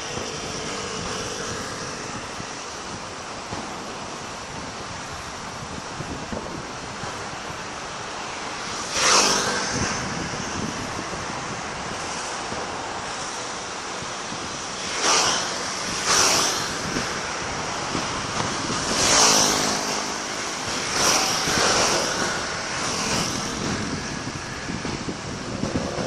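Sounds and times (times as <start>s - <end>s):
steady background rush: 0.0s - 26.0s.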